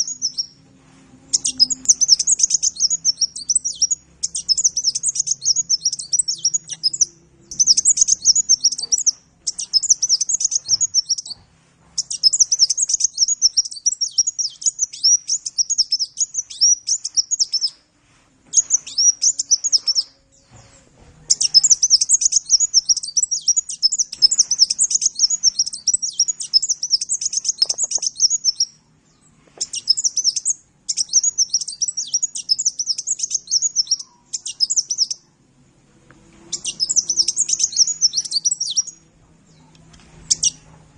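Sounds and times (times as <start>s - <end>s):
bird twittering song: 0.0s - 0.6s, 1.3s - 17.8s, 18.5s - 35.3s, 36.5s - 40.8s.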